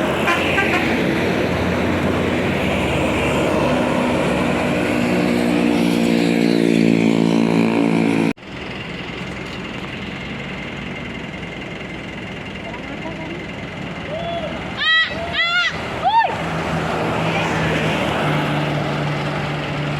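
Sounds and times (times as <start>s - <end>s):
bus accelerating past: 0.0s - 19.9s
steady engine hum: 0.0s - 19.9s.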